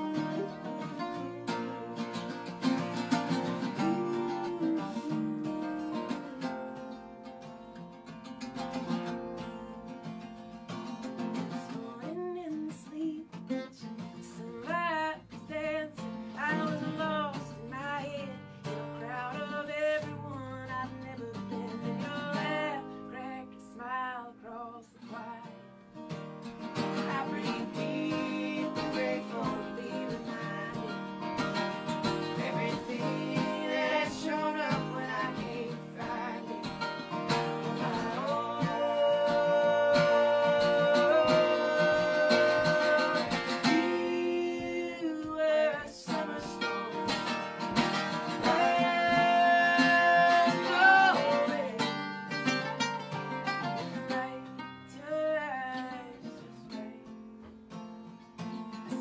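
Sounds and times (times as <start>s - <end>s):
woman singing with vibrato: 0.0s - 7.1s, 11.4s - 25.6s, 27.0s - 52.3s, 53.6s - 57.1s
acoustic guitars strumming: 0.0s - 59.0s.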